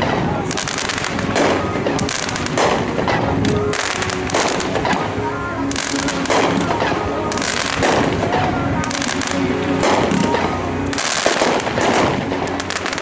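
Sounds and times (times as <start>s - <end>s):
firework crackle: 0.0s - 13.0s
firework shots and bursts: 0.0s - 13.0s.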